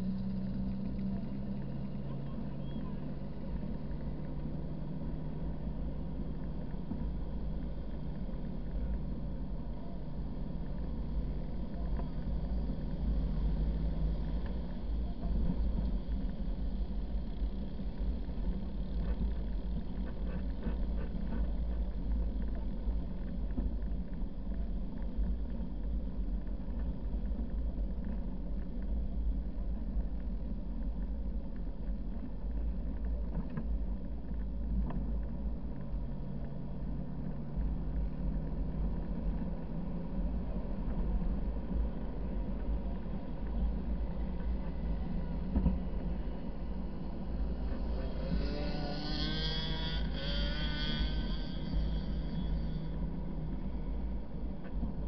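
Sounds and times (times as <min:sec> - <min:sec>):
vehicle driving rumble: 0:00.0 - 0:55.0.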